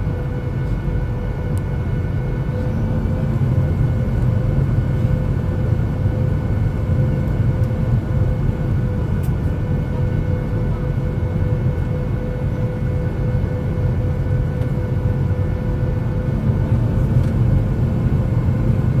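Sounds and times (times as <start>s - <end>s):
cabin engine and airflow rumble: 0.0s - 19.0s.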